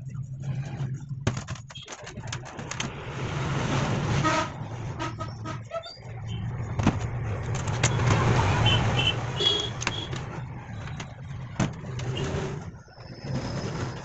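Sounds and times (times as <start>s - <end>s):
engine rumbling: 0.0s - 14.0s.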